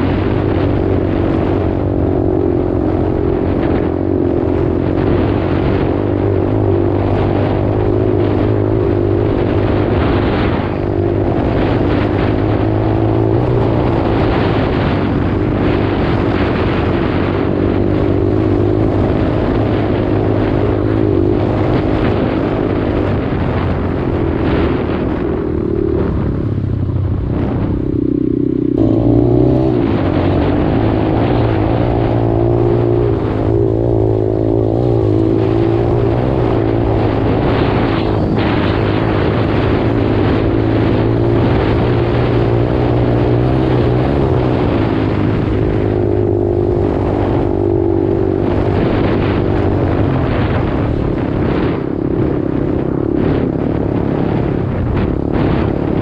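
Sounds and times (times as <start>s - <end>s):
dirt bike engine revving: 0.0s - 26.6s, 27.2s - 56.0s.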